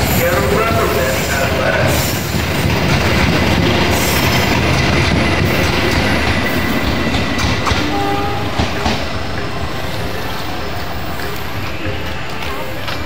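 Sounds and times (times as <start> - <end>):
train wheels rumbling over rail joints: 0.0 - 13.0.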